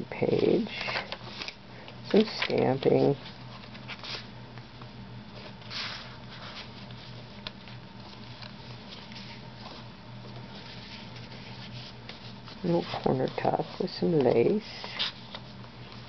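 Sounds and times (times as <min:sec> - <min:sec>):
steady low hum: 0:00.0 - 0:16.0
paper pages rustling: 0:00.6 - 0:04.3, 0:05.3 - 0:16.0.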